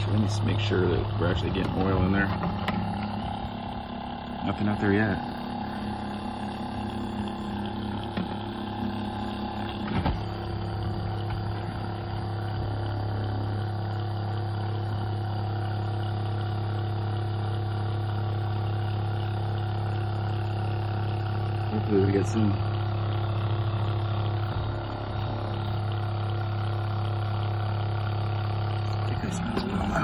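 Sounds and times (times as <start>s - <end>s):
electric pump humming: 0.0s - 30.0s.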